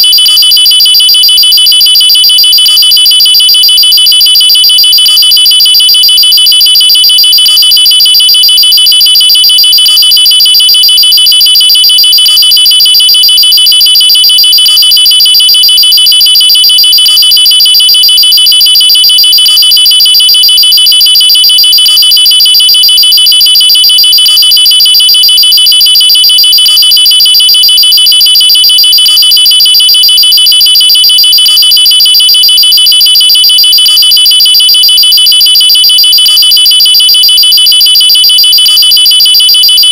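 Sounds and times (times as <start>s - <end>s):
shrill pulsing electronic alarm: 0.0s - 39.9s.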